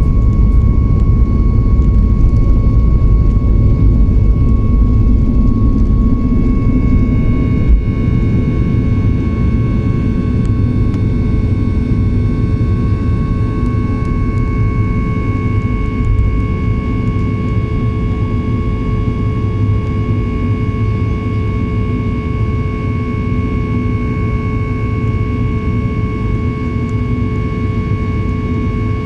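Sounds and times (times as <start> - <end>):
aircraft engine rumble and airflow: 0.0 - 29.0
steady whine: 0.0 - 29.0.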